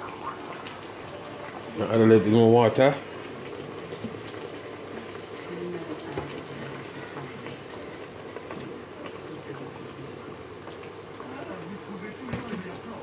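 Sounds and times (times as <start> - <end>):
water pouring into a pot: 0.0 - 13.0.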